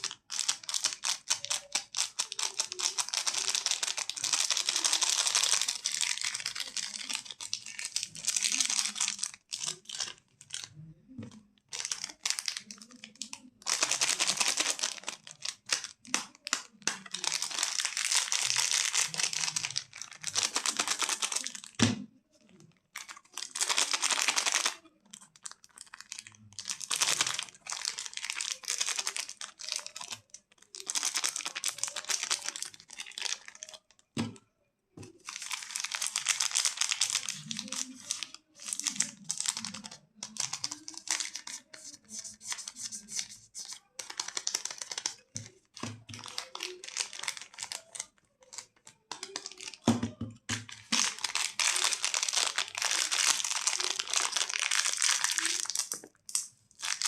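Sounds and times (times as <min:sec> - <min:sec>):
wrappers crinkling and tearing: 0:00.0 - 0:10.7, 0:11.7 - 0:21.8, 0:22.9 - 0:34.1, 0:35.2 - 0:49.9, 0:50.6 - 0:57.0.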